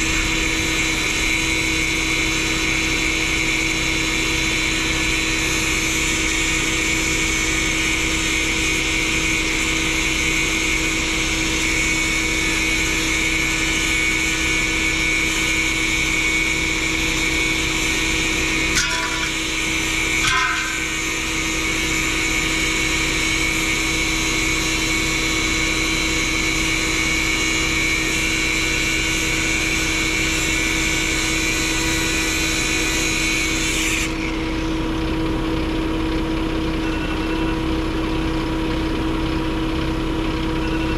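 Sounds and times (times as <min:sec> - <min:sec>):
machine humming with high whine: 0:00.0 - 0:40.9.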